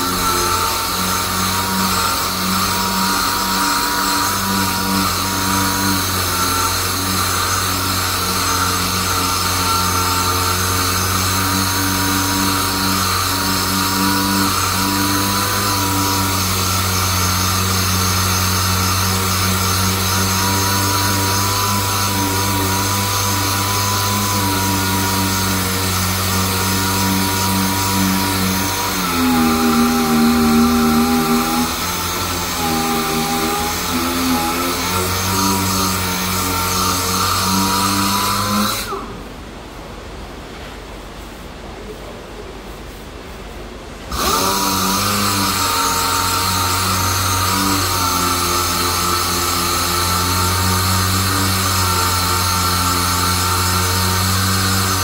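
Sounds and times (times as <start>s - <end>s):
handheld power tool running: 0.0s - 39.1s, 44.1s - 55.0s.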